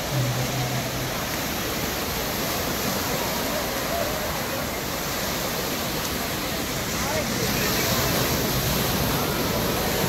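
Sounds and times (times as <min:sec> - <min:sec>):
waves breaking on beach: 0:00.0 - 0:10.0.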